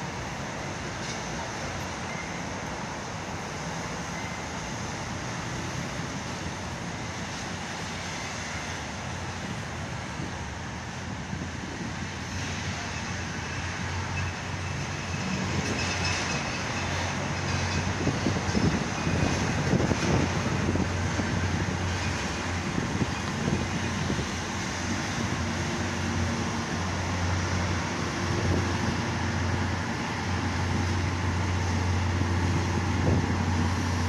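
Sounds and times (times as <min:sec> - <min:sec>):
city traffic noise: 0:00.0 - 0:34.0
diesel locomotive engine: 0:00.0 - 0:34.0.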